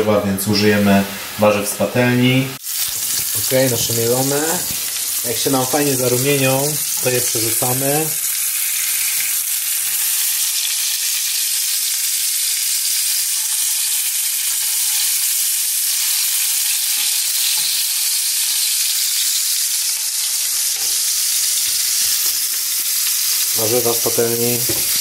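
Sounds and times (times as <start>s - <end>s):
patties sizzling in pan: 0.4s - 25.0s.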